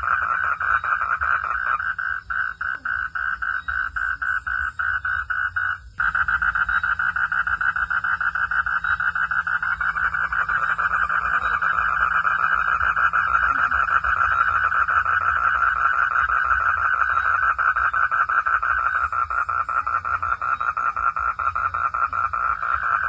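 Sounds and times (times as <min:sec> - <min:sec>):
frogs chorus pulsing calls: 0:00.0 - 0:23.0.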